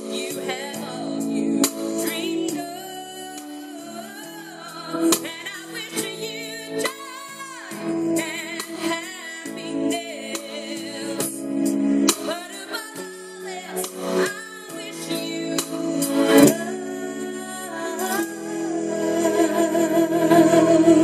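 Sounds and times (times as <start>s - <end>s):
woman singing with vibrato: 0.0s - 11.5s, 12.3s - 21.0s
sustained backing chords: 0.0s - 21.0s.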